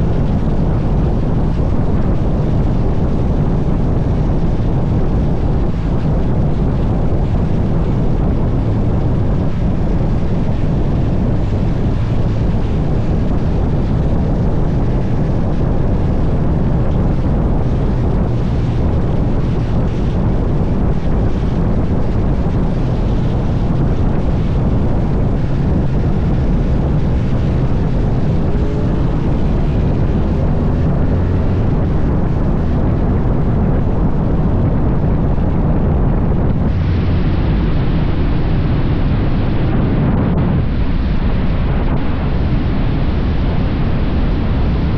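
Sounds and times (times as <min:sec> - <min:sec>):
motorcycle engine running: 0:00.0 - 0:37.7
wind rush on microphone: 0:00.0 - 0:44.9.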